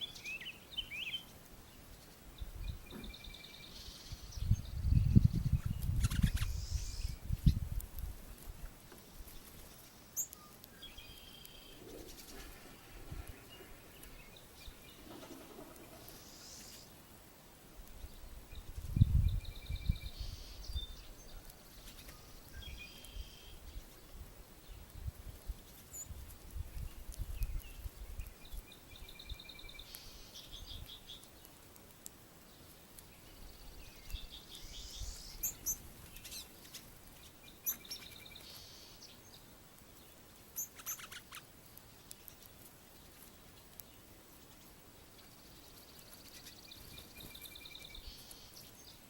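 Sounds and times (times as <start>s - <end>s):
songbirds singing: 0.0s - 49.0s.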